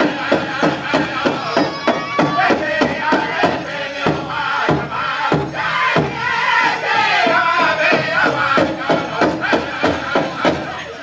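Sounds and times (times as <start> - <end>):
big drum beating: 0.0 - 10.8
voices singing in unison: 0.0 - 11.0.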